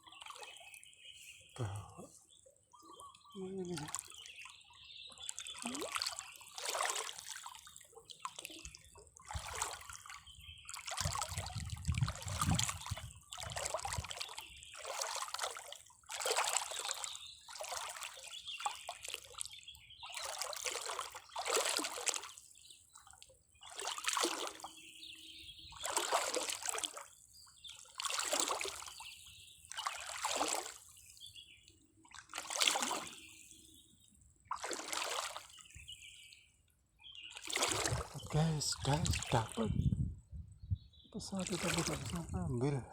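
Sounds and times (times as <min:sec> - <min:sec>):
water splashing and sloshing: 0:00.0 - 0:40.0, 0:41.2 - 0:42.9.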